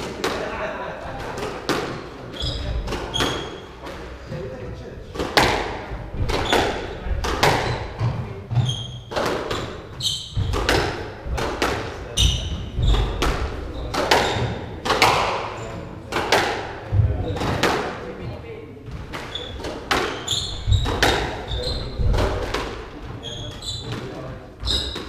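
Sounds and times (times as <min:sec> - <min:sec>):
squash ball hits: 0:01.2 - 0:03.6, 0:05.1 - 0:18.0, 0:18.9 - 0:25.0
shoes squeaking on wooden floor: 0:01.8 - 0:04.5, 0:05.3 - 0:16.0, 0:18.2 - 0:25.0.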